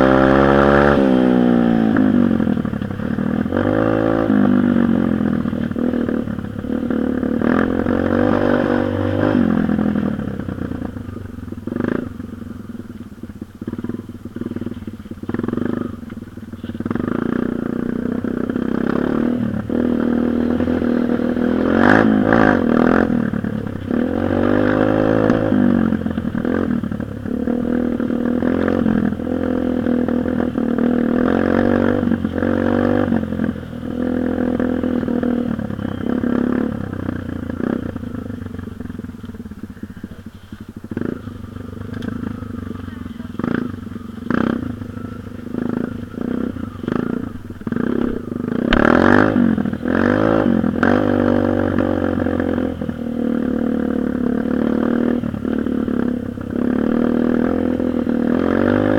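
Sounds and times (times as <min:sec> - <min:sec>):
dirt bike engine revving: 0:00.0 - 0:39.0, 0:39.6 - 0:58.9.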